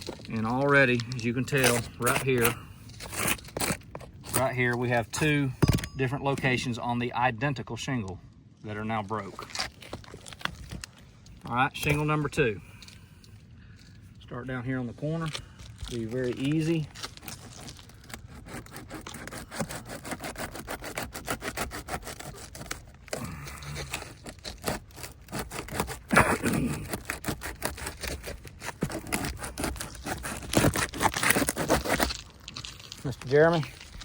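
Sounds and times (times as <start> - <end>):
shingle cracking: 0.0 - 6.6, 9.2 - 14.1, 15.1 - 34.0
pry tool scraping under shingle: 0.0 - 6.8, 9.2 - 34.0.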